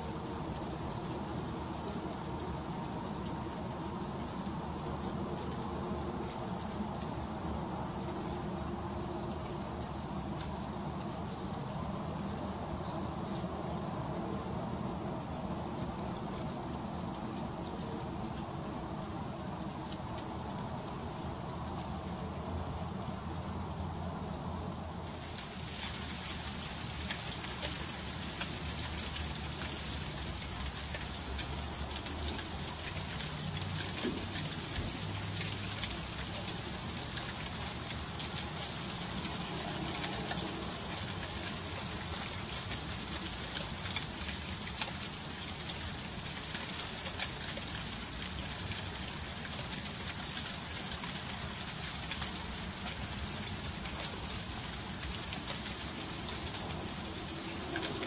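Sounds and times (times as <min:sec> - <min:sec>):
freezing rain pattering: 0:00.0 - 0:58.0.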